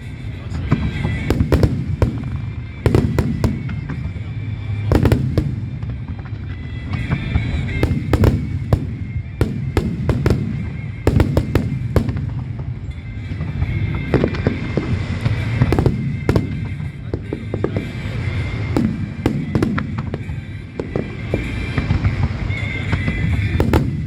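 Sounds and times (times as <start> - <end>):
low rumble of distant reports: 0.0 - 24.0
firework shells bursting: 1.0 - 4.2, 4.8 - 6.5, 7.6 - 13.3, 14.6 - 24.0.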